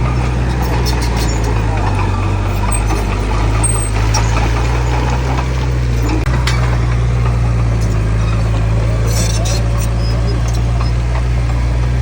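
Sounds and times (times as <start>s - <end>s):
metallic clicks and clanks: 0.0s - 11.8s
heavy diesel engine running: 0.0s - 12.0s.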